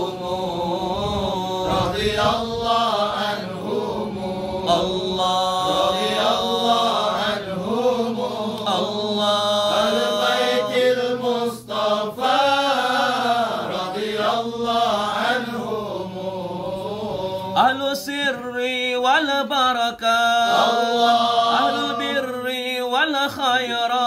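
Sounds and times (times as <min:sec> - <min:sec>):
men chanting a hymn: 0:00.0 - 0:24.0.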